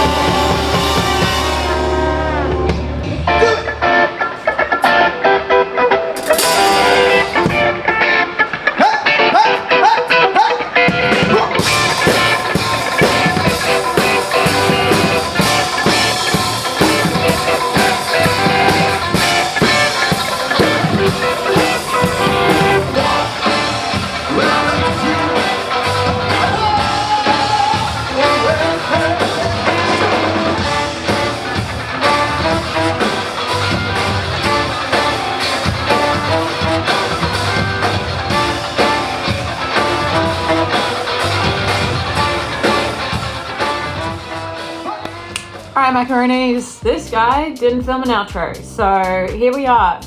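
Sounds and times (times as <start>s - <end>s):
funk band playing: 0.0s - 50.0s.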